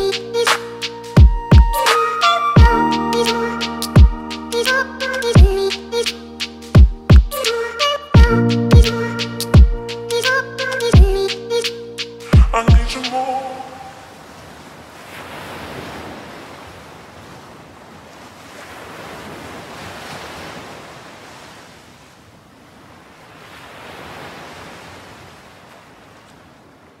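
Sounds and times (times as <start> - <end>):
ocean waves washing in: 0.0 - 27.0.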